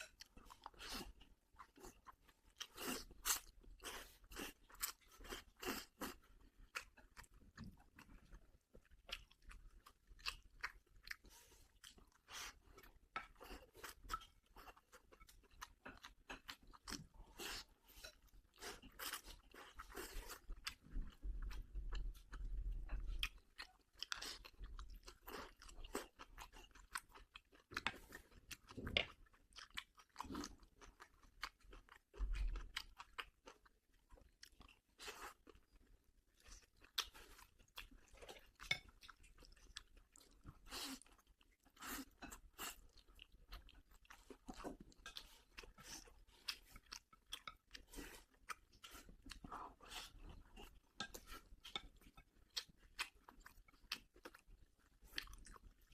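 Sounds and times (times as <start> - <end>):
person chewing: 0.0 - 55.9.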